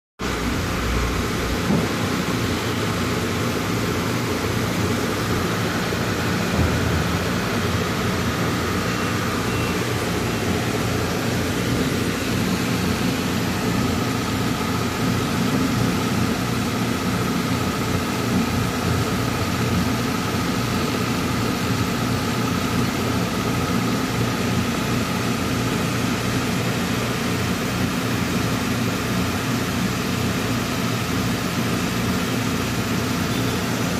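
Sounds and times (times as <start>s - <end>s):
truck diesel engine idling: 0.3s - 33.9s.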